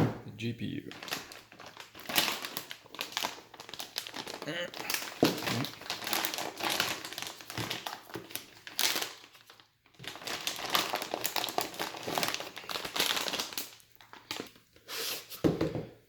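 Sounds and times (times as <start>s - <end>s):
packaging crinkling and rustling: 0.9s - 14.8s.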